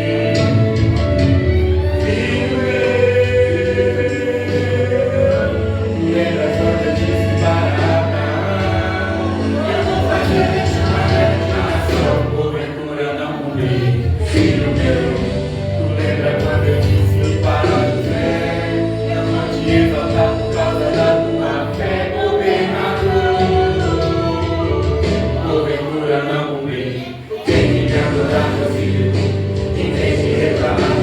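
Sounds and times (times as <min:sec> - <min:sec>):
gospel song with harmony vocals: 0:00.0 - 0:31.0.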